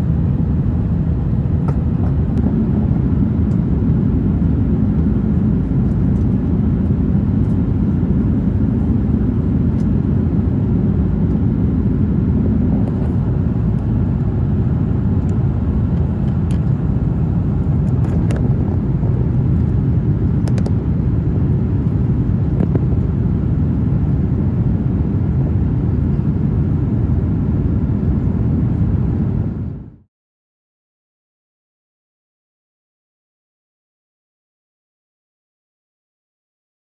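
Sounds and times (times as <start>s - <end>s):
airplane cabin engine rumble: 0.0s - 30.1s.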